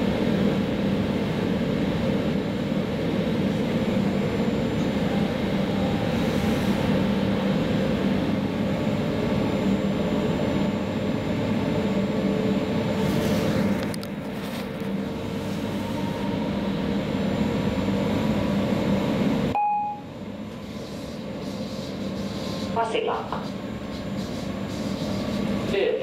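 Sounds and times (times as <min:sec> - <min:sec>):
train running rumble: 0:00.0 - 0:19.6, 0:20.2 - 0:26.0.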